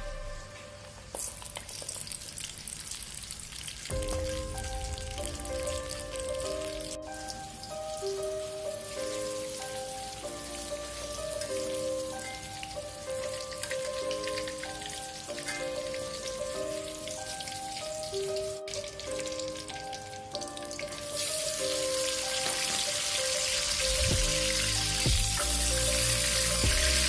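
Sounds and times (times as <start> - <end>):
background music with held notes: 0.0 - 1.6, 3.9 - 27.0
oil sizzling in a wok: 0.0 - 27.0.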